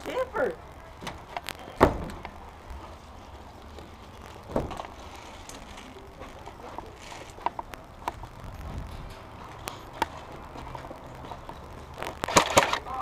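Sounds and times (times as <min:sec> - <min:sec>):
steady low buzz: 0:00.0 - 0:13.0.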